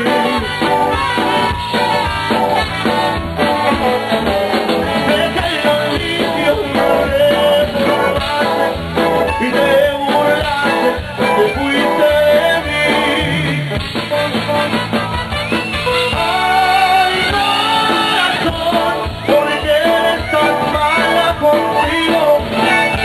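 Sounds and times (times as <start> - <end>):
upbeat band music with singing: 0.0 - 23.0.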